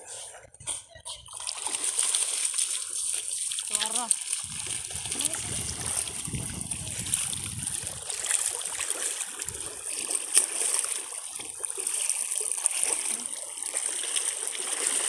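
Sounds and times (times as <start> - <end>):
stream running over pebbles: 1.3 - 15.0.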